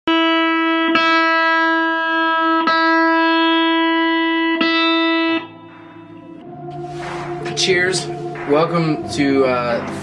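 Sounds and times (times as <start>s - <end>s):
electric guitar sustained note: 0.1s - 10.0s.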